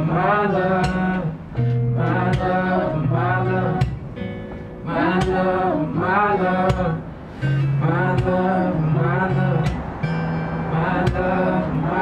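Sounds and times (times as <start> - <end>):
man singing: 0.0 - 4.0, 4.8 - 10.0, 10.6 - 12.0
strummed acoustic guitar: 0.0 - 12.0.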